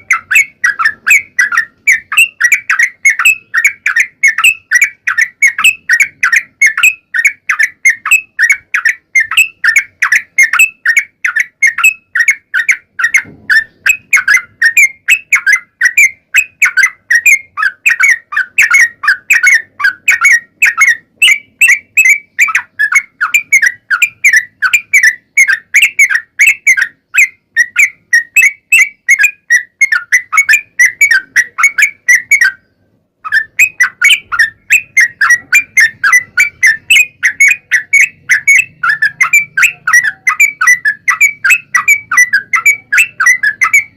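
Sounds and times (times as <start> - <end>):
bulbul singing bright chirps: 0.0 - 43.9.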